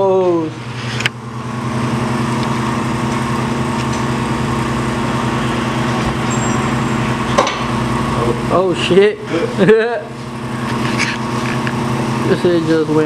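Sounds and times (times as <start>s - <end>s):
engine humming with hiss: 0.2s - 13.0s.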